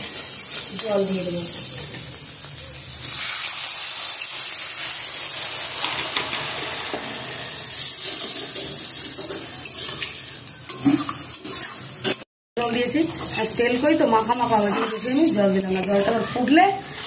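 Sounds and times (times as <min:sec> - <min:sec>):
metal spatula scraping pan: 0:00.0 - 0:01.0, 0:03.1 - 0:17.0
water sizzling in hot oil: 0:00.0 - 0:17.0.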